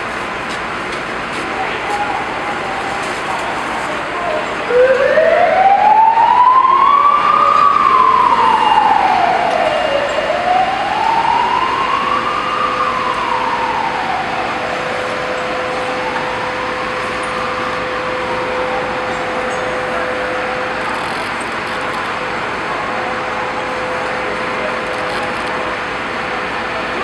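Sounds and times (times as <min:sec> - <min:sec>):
street noise hiss: 0:00.0 - 0:27.0
emergency vehicle siren wailing: 0:01.2 - 0:27.0.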